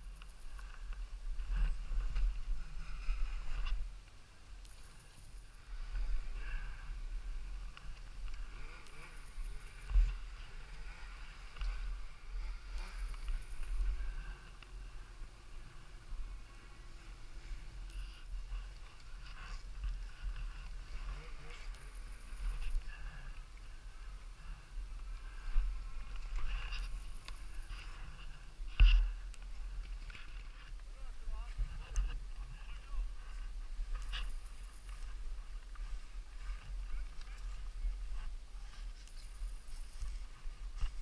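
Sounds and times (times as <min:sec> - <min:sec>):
riding gear rustling: 0:00.0 - 0:41.0
wind rumble on microphone: 0:00.0 - 0:41.0.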